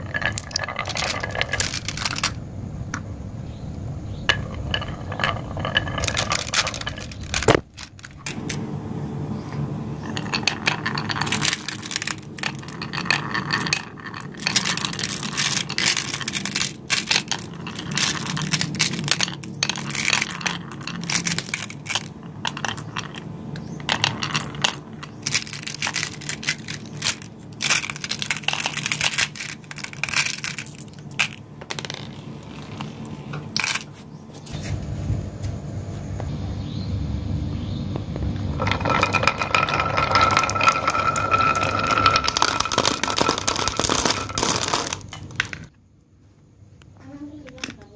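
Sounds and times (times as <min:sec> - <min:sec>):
marbles clacking together: 0:00.0 - 0:08.6, 0:10.0 - 0:33.9, 0:38.4 - 0:45.7
marbles rolling on wood: 0:00.0 - 0:08.7, 0:09.5 - 0:34.6, 0:38.0 - 0:45.8, 0:47.0 - 0:47.9.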